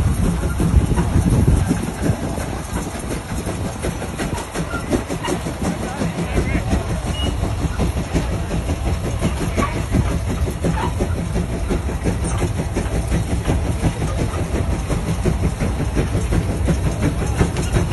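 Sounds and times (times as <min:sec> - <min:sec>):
fast rattle: 0:00.0 - 0:17.9
heavy vehicle engine rumbling: 0:00.0 - 0:17.9.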